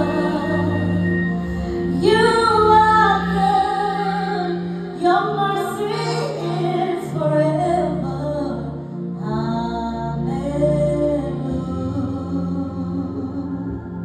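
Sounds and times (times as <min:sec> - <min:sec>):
sustained chords: 0:00.0 - 0:14.0.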